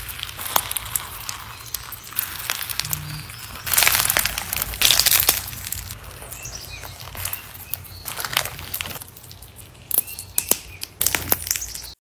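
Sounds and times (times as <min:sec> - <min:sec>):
crunchy slime crackling: 0:00.0 - 0:12.0.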